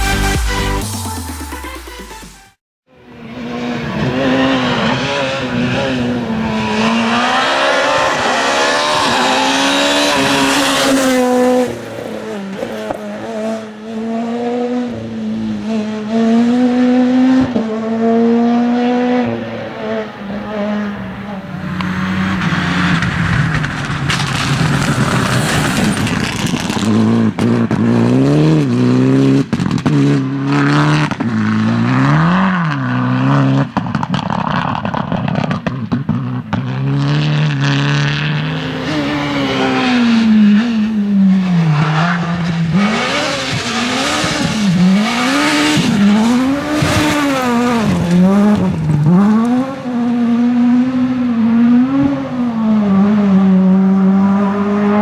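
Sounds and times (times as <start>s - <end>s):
rally car engine revving: 3.0s - 55.0s.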